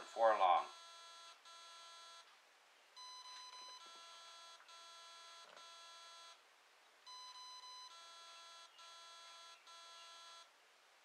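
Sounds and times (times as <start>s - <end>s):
buzzy motor beeps: 0.0s - 2.3s, 3.0s - 6.4s, 7.1s - 10.5s.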